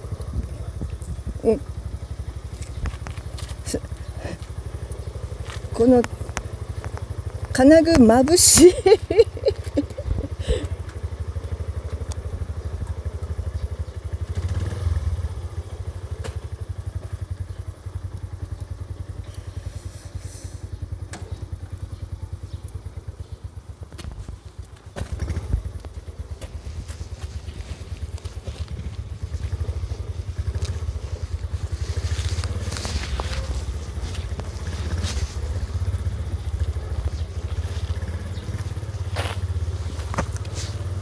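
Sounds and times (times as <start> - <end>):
small motorcycle engine running: 0.0 - 41.0.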